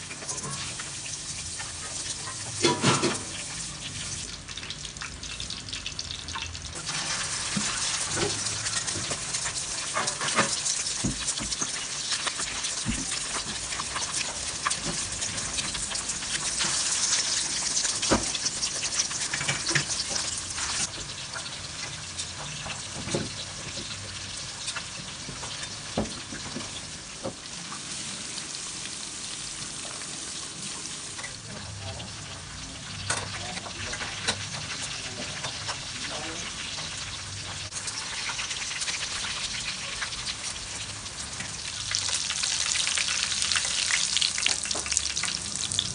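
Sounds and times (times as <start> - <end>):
ribs sizzling in hot oil: 0.0 - 45.9.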